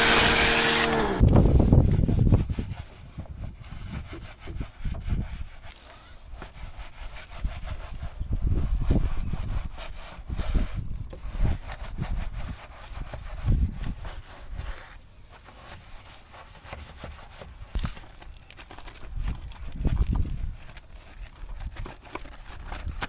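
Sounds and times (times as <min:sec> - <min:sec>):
rubbing and scrubbing: 0:00.0 - 0:23.0.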